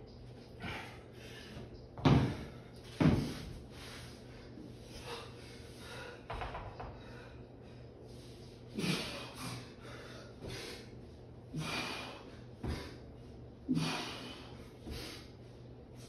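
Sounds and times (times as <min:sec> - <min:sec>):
man breathing hard: 0:00.5 - 0:01.7, 0:02.4 - 0:16.0.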